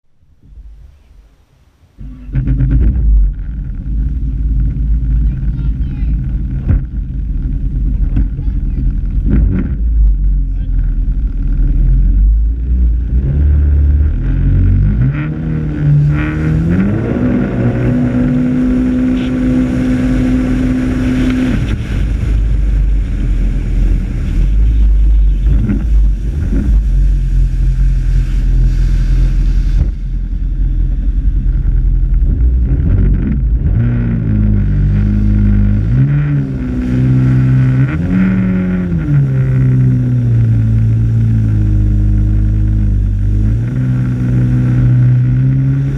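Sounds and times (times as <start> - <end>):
rushing noise: 0.3 - 45.9
jet ski engine accelerating: 0.4 - 45.9.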